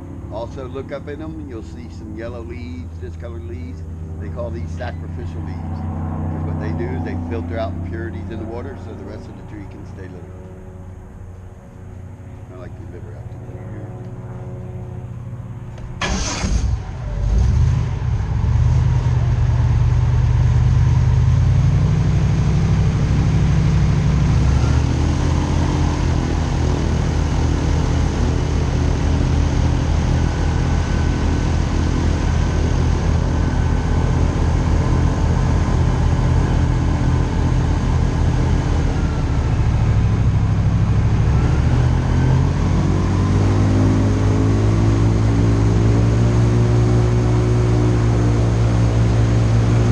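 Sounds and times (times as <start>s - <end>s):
airboat engine and propeller drone: 0.0s - 49.9s.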